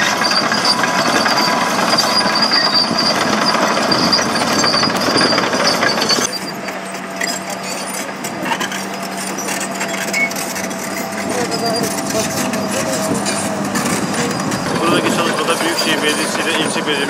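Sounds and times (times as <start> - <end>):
machinery rumbling and clattering: 0.0 - 17.0.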